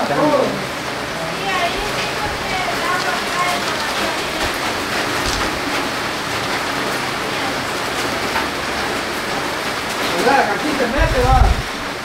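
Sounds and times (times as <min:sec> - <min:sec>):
rain falling and splashing: 0:00.0 - 0:12.0.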